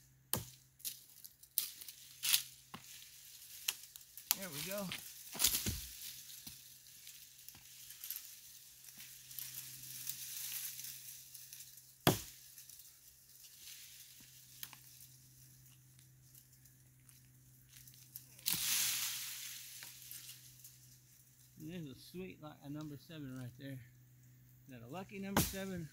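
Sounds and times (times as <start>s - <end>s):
brush and dry leaves rustling: 0.4s - 23.5s, 25.3s - 25.9s.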